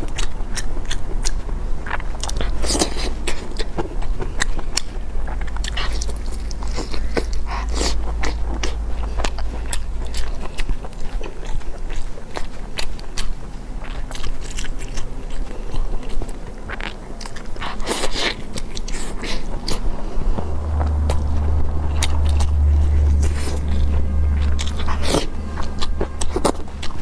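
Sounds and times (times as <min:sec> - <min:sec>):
person biting and chewing: 0:00.0 - 0:27.0.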